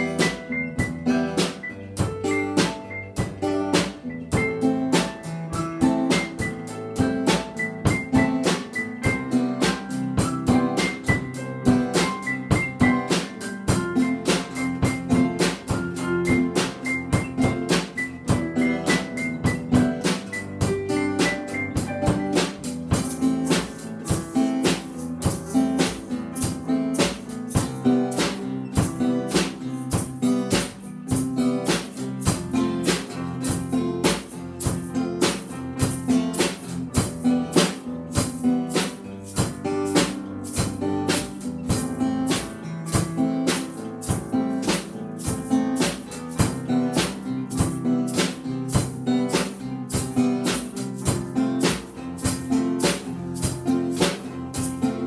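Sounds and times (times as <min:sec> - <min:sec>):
acoustic guitar: 0:00.0 - 0:55.0
drum kit beat: 0:00.0 - 0:55.0
electronic keyboards: 0:00.0 - 0:55.0.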